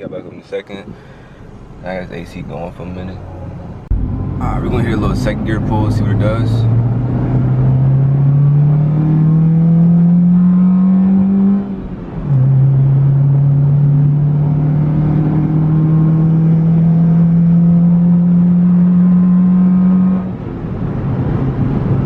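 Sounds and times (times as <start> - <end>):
car engine accelerating: 0.8 - 22.0.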